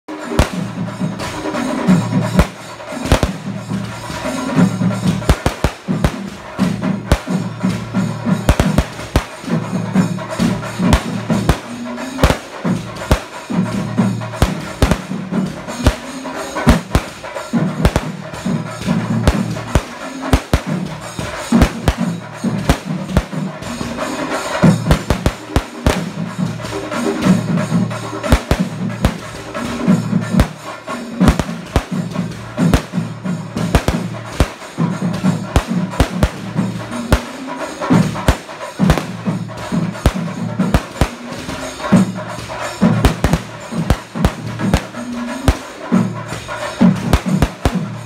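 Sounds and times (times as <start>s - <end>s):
fireworks bangs: 0.1s - 48.0s
loud music: 0.1s - 48.0s.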